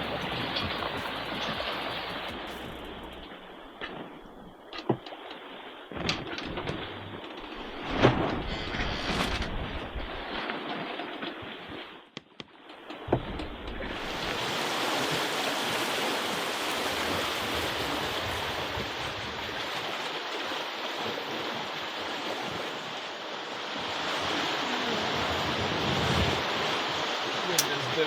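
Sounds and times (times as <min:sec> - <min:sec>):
water rushing along hull: 0:00.0 - 0:28.0
wind: 0:00.0 - 0:28.0.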